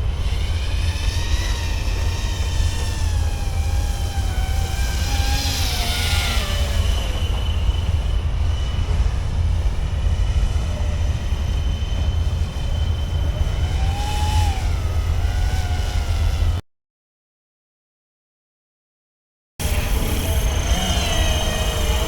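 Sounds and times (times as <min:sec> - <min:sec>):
small propeller motor whine: 0:00.0 - 0:16.6, 0:19.6 - 0:22.0.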